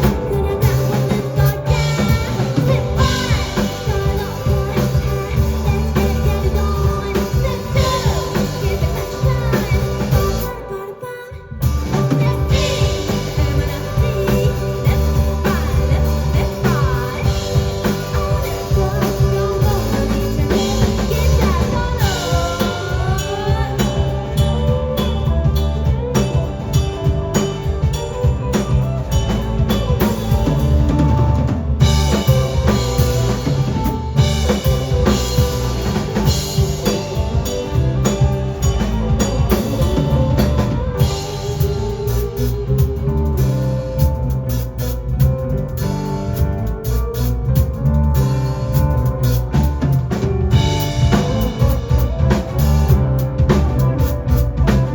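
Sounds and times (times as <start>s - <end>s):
drum kit beat: 0.0s - 10.6s, 11.6s - 54.9s
live band playing instrumental: 0.0s - 10.7s, 11.6s - 54.9s.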